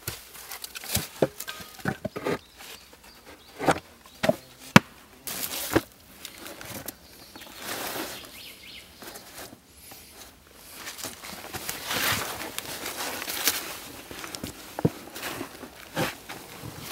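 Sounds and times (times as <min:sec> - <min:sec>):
rustling and scraping of moss: 0:00.0 - 0:16.9.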